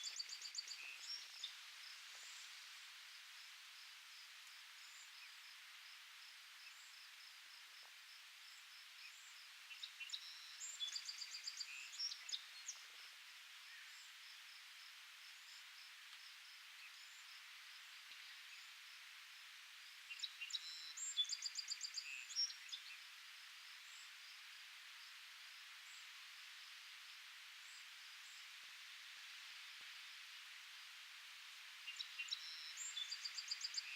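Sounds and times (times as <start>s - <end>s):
outdoor ambient hiss: 0.0s - 33.9s.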